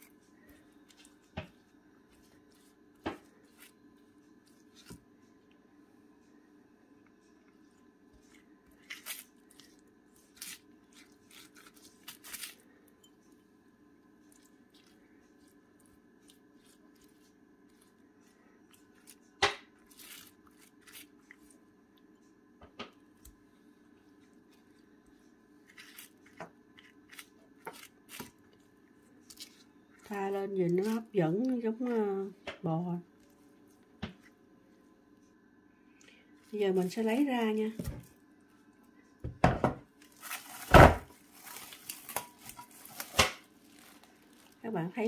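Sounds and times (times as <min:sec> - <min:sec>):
pastry brush dabbing food: 0:00.0 - 0:35.5, 0:36.3 - 0:39.2
faint low hum: 0:00.0 - 0:45.0.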